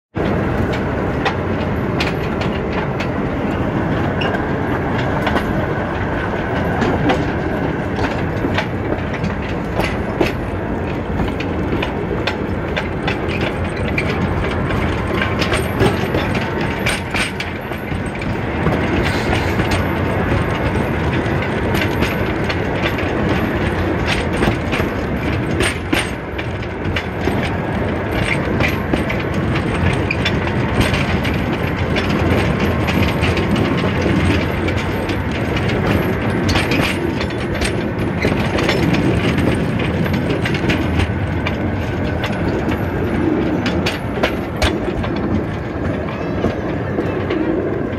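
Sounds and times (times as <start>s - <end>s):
train wheels rattling on rails: 0.1s - 47.9s.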